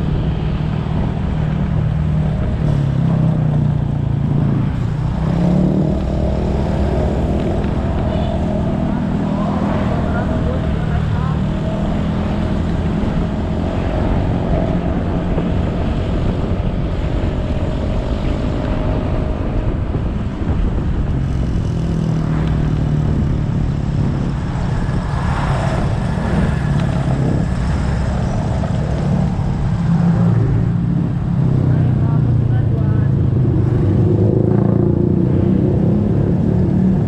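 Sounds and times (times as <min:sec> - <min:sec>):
heavy wind noise: 0:00.0 - 0:37.0
road noise: 0:00.0 - 0:37.0.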